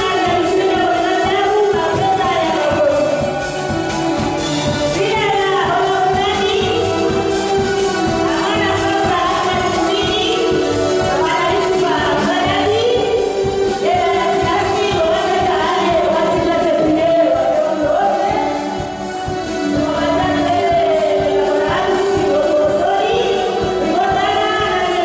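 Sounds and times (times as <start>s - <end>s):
woman singing into a microphone: 0.0s - 3.4s, 5.0s - 7.4s, 8.0s - 25.0s
music playing: 0.0s - 25.0s.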